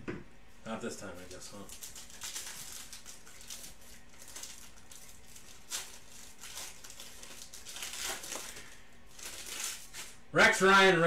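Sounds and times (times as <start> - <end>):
foil wrapper crinkling: 1.0 - 10.2.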